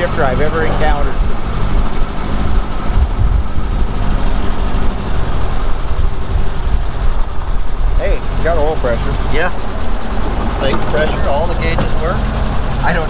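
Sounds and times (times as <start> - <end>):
car engine running: 0.0 - 13.0
low rumble: 0.0 - 13.0.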